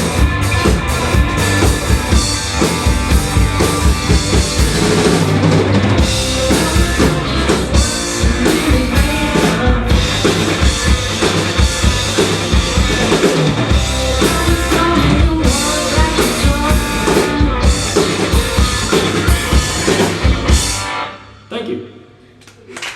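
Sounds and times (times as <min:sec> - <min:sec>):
drum kit steady beat: 0:00.0 - 0:20.9
rock band playing live: 0:00.0 - 0:21.5.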